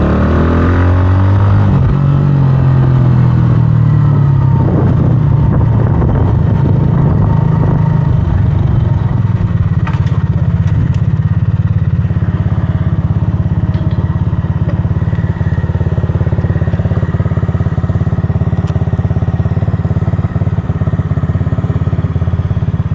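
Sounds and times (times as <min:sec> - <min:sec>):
motorcycle engine at low revs: 0:00.0 - 0:22.9.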